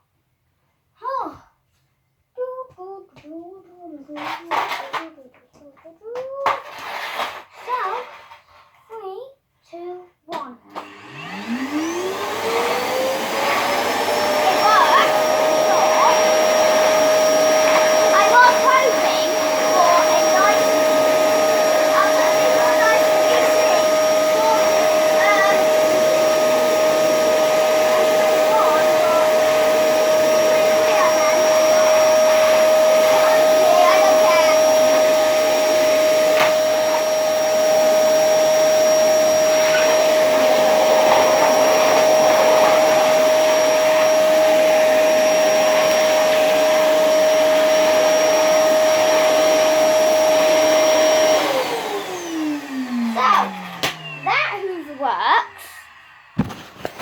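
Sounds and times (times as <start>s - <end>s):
vacuum cleaner running: 10.7s - 57.0s.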